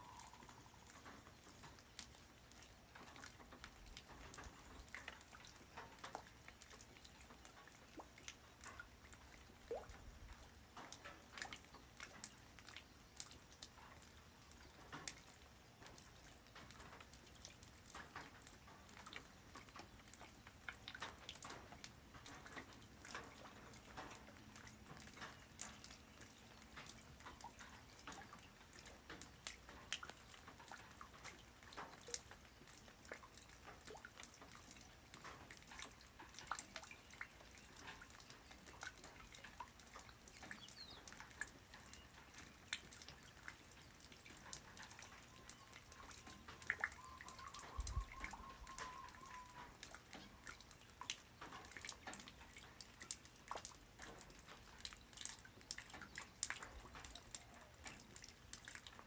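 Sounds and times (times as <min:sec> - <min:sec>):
light rain patter: 0:00.0 - 0:59.0.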